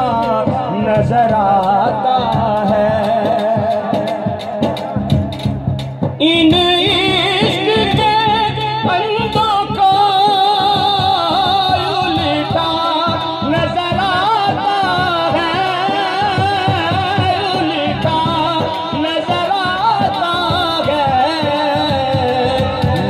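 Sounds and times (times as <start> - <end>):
hand drum beat: 0.0 - 23.0.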